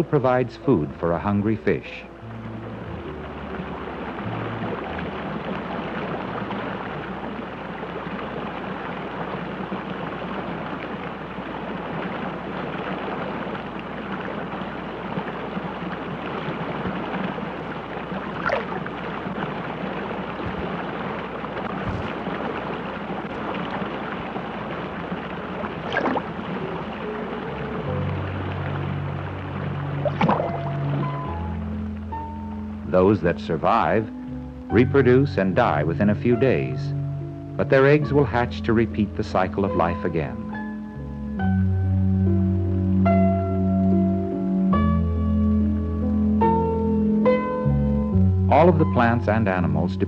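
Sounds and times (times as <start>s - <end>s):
stream water rushing: 0.0s - 47.7s.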